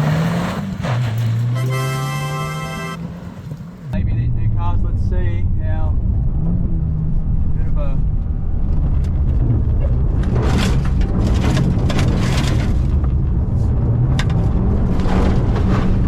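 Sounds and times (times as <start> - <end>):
car engine pulling hard: 0.0 - 16.0.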